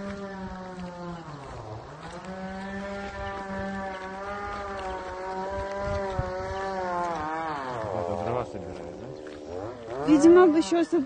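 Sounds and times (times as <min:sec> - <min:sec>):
motor buzzing hum: 0:00.0 - 0:11.0.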